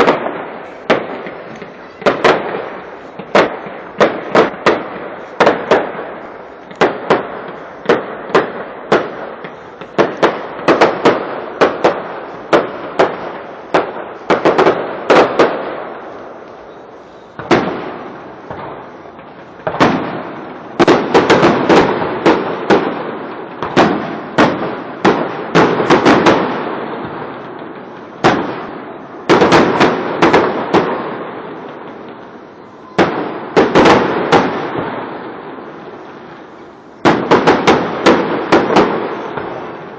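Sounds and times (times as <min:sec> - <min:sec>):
firework bangs: 0:00.0 - 0:39.9
firework crackle: 0:00.0 - 0:39.9.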